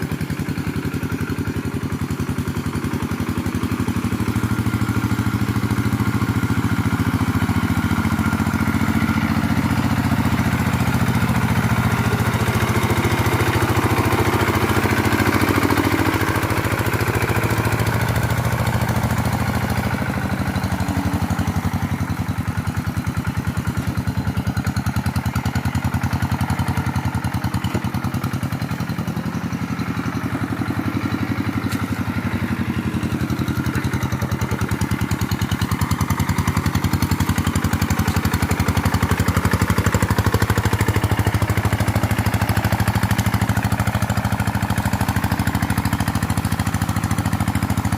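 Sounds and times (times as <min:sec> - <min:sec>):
chainsaw engine running: 0:00.0 - 0:47.9.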